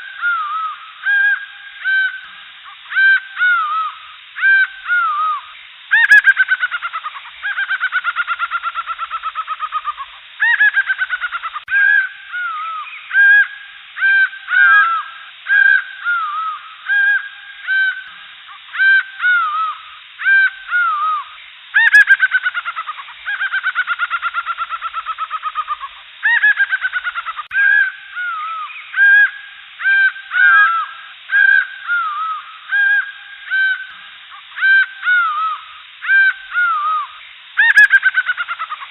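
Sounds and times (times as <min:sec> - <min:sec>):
birds calling: 0:00.0 - 0:38.9.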